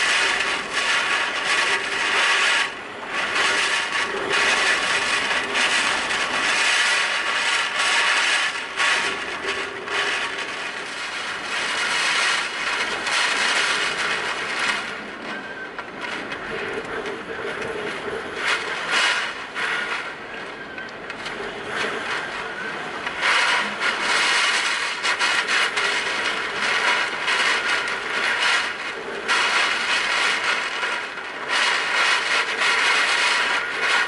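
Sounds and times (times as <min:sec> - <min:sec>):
gusting wind: 0:00.0 - 0:34.0
heavy rain: 0:00.0 - 0:34.0.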